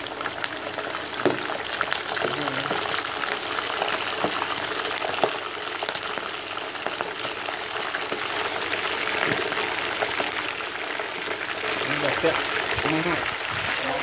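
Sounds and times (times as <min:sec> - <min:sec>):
chicken sizzling in hot oil: 0:00.0 - 0:14.0
oil popping and crackling: 0:00.0 - 0:14.0.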